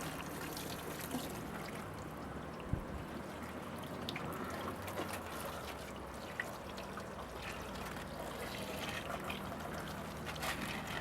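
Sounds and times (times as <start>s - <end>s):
hose water splashing: 0.0s - 2.0s, 3.4s - 11.0s
water drips and splats: 0.0s - 11.0s.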